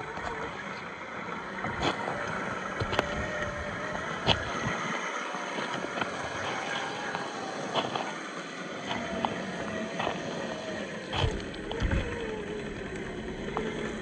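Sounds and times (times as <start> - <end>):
electric motor whining: 0.0 - 14.0
wheels knocking on rocks: 0.0 - 14.0.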